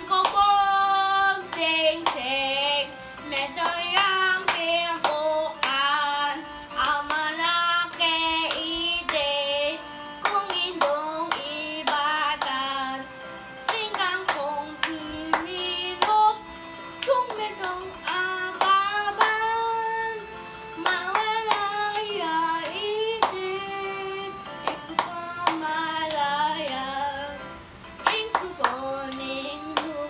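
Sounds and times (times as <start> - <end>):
child singing slow folk song: 0.0 - 16.4, 17.0 - 20.2, 20.8 - 24.3, 25.0 - 27.4, 28.0 - 30.0.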